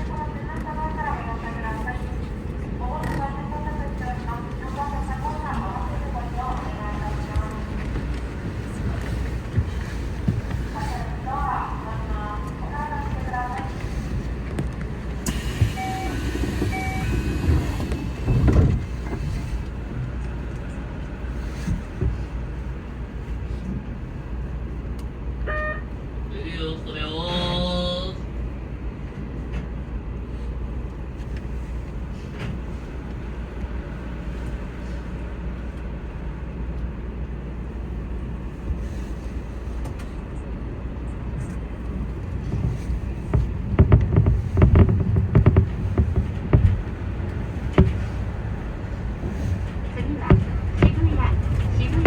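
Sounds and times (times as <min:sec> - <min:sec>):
electric train rumble: 0:00.0 - 0:52.0.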